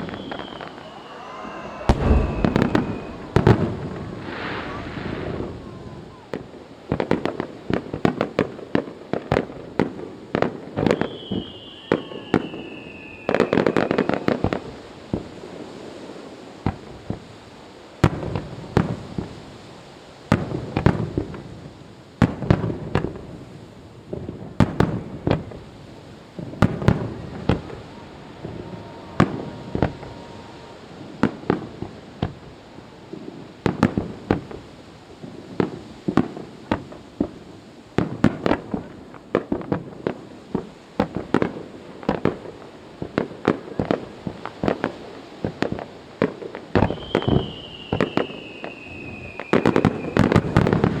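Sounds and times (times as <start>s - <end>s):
fireworks bursting: 0.0s - 19.6s, 20.2s - 51.0s.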